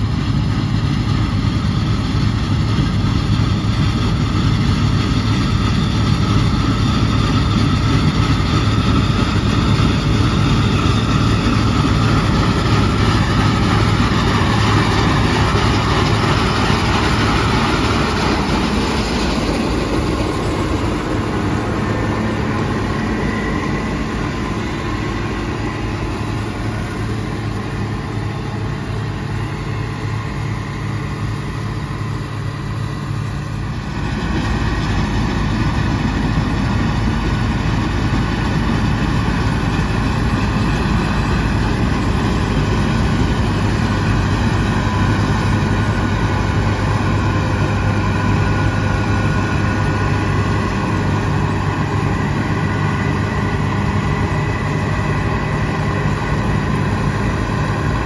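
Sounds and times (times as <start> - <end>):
diesel engine drone: 0.0 - 58.0
threshing machinery noise: 0.0 - 58.0.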